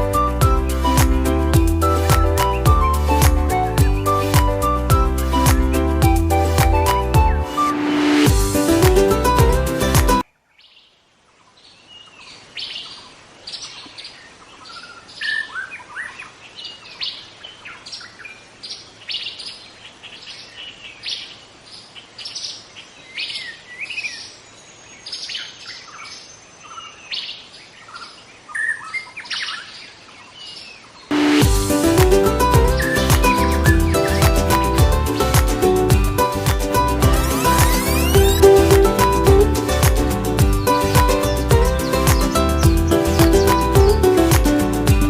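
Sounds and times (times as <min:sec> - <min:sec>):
bird calling and singing: 0:01.6 - 0:08.3, 0:10.6 - 0:31.5, 0:32.1 - 0:45.0.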